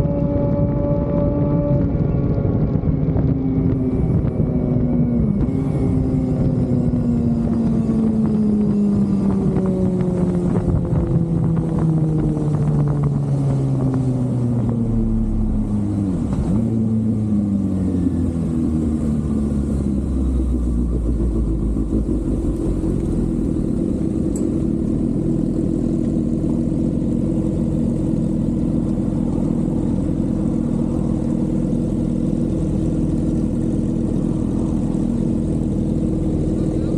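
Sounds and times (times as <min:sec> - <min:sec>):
motorcycle engine slowing: 0:00.0 - 0:36.9.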